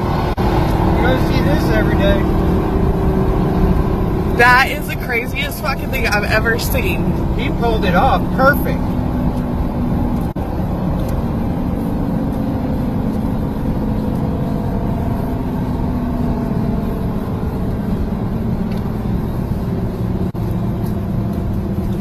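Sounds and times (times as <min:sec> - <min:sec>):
freeway traffic drone: 0:00.0 - 0:22.0.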